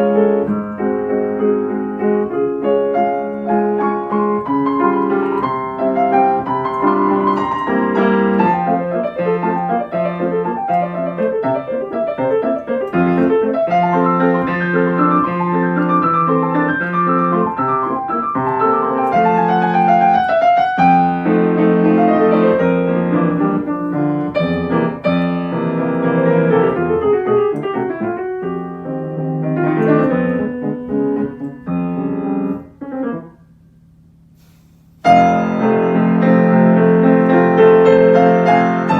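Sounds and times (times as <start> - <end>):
solo piano waltz: 0.0 - 33.6, 34.4 - 38.9.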